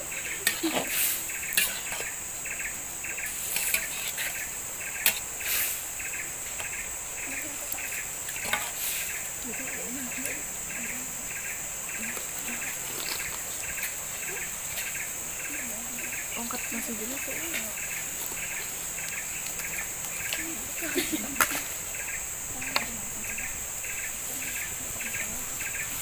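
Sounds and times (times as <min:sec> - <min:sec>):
insects high-pitched drone: 0:00.0 - 0:26.0
rhythmic insect chirp: 0:00.0 - 0:26.0.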